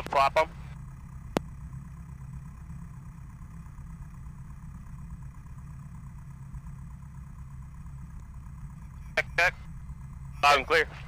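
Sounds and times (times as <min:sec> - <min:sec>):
aircraft piston engine idling: 0:00.0 - 0:11.0.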